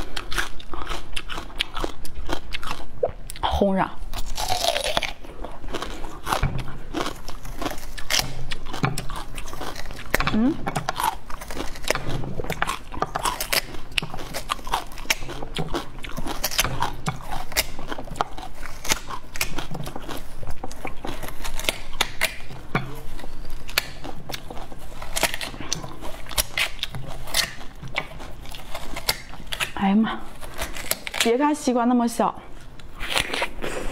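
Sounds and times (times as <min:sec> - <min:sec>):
fingers tearing watermelon flesh: 0:04.2 - 0:31.4, 0:32.6 - 0:33.9.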